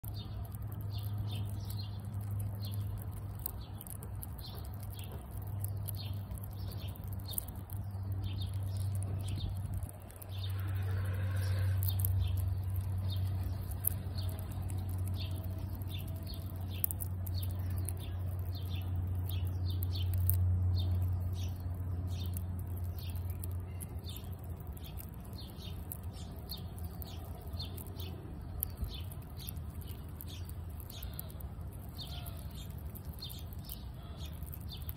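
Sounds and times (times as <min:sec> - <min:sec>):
squirrel crunching nuts: 0:00.0 - 0:34.9
steady low hum: 0:00.0 - 0:34.9.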